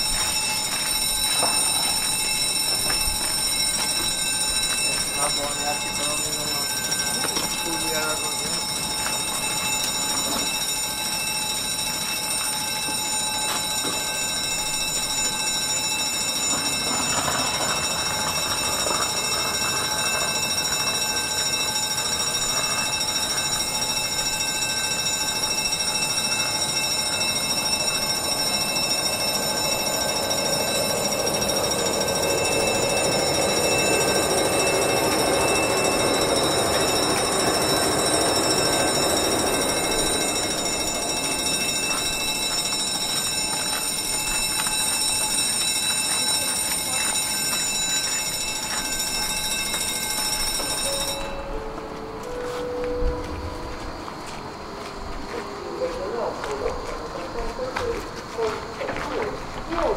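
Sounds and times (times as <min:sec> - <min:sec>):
level crossing bell ringing: 0:00.0 - 0:56.9.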